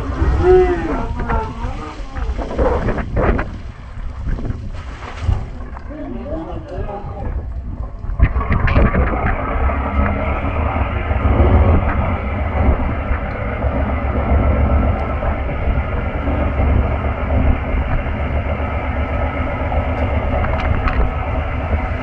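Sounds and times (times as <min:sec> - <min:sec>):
boat engine rumbling: 0:00.0 - 0:22.0.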